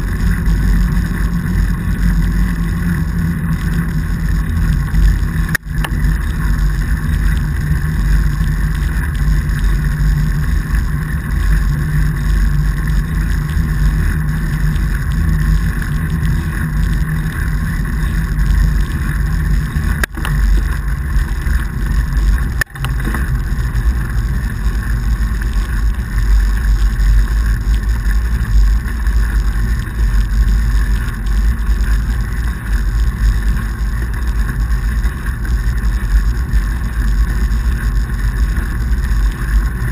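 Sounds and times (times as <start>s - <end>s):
tyres rolling over snow: 0.0s - 39.9s.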